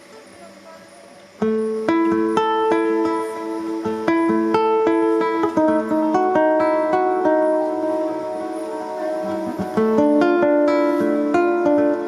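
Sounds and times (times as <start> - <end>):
plucked string melody: 1.4 - 12.0.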